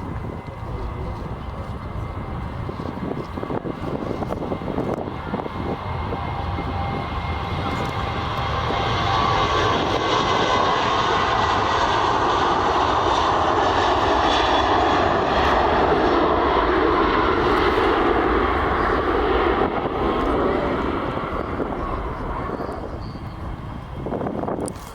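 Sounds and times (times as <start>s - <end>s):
airliner engines roaring: 0.0s - 24.9s.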